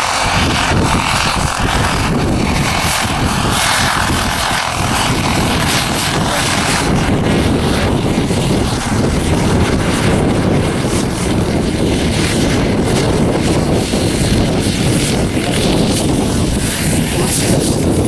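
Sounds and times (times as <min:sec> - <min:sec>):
model helicopter engine and rotor droning: 0:00.0 - 0:18.0.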